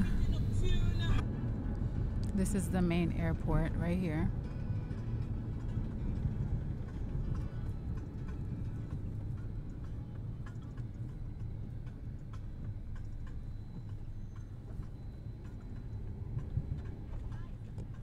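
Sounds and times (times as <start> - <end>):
engine and tyre rumble: 0.0 - 18.0.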